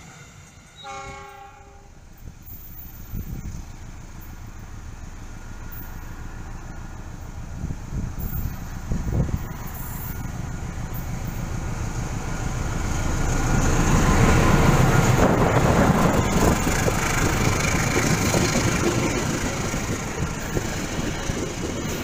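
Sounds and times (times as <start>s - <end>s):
diesel locomotive engine running: 0.0s - 22.0s
passenger coaches passing: 0.0s - 22.0s.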